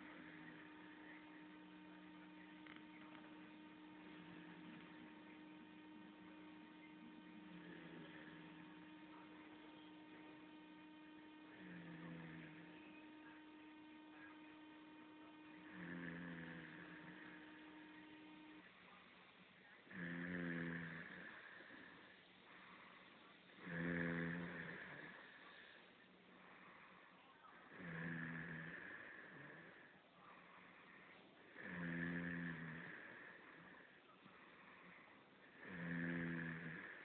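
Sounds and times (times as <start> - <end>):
snoring: 0.0 - 18.7, 19.9 - 25.8, 27.7 - 29.9, 30.6 - 37.0
electrical hum: 0.0 - 37.0.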